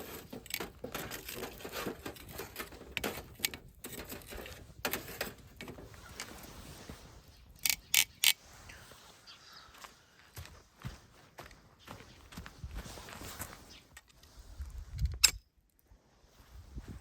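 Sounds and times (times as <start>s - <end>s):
rustling and handling noises: 0.0s - 15.2s.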